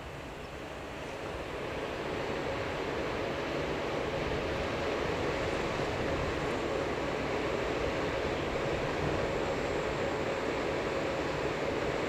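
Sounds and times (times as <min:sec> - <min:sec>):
electric train running past: 0:00.0 - 0:12.0.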